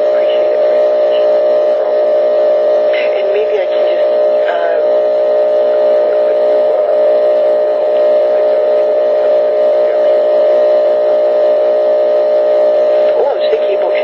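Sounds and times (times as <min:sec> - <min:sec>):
electrical buzz on telephone line: 0:00.0 - 0:14.0.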